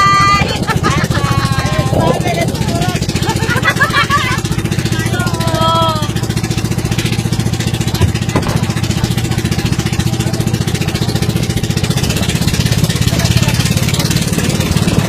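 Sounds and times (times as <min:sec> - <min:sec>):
small engine running: 0:00.4 - 0:15.0.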